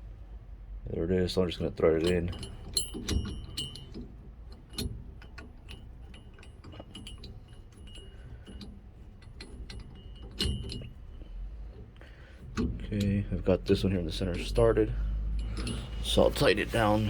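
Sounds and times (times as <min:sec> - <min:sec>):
metal plate and bolts clinking: 0:01.8 - 0:11.4, 0:12.5 - 0:17.0.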